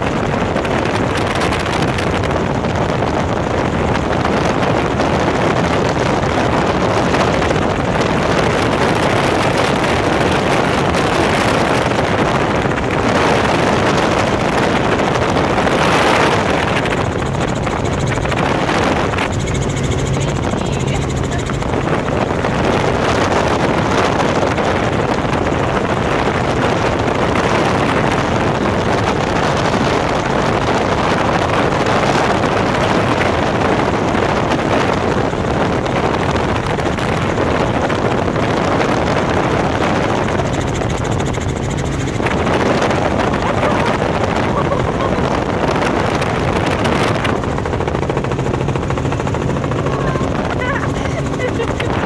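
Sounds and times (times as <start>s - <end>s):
helicopter in flight: 0.0s - 52.0s.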